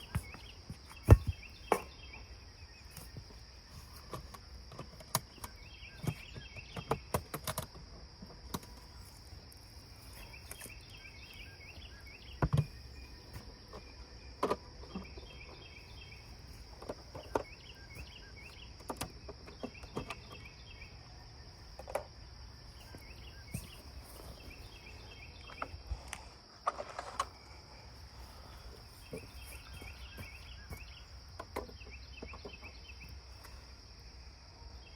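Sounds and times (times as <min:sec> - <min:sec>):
crickets droning and chirping: 0:00.0 - 0:34.9.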